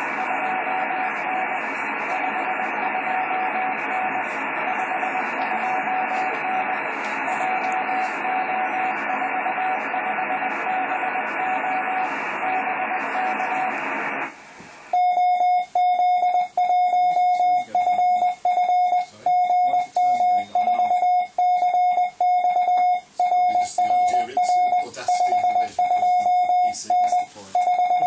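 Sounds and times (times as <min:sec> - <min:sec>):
receiver hiss: 0:00.0 - 0:28.0
keyed morse code tone: 0:02.1 - 0:13.7, 0:15.0 - 0:28.0.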